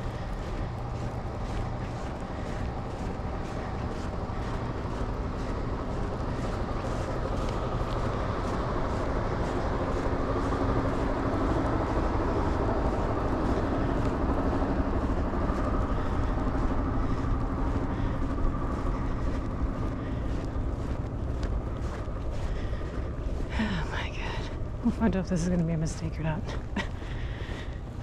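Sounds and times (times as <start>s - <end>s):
footsteps crunching through snow: 0.0s - 28.0s
vehicle engine rumbling: 0.0s - 28.0s.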